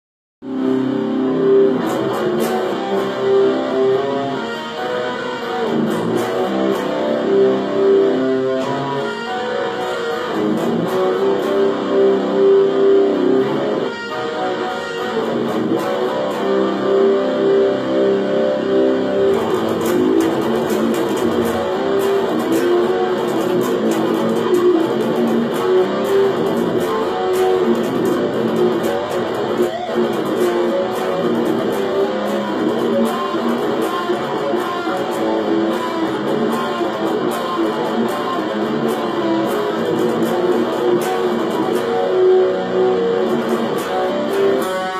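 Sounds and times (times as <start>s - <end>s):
electric guitar picked notes: 0.4s - 44.9s.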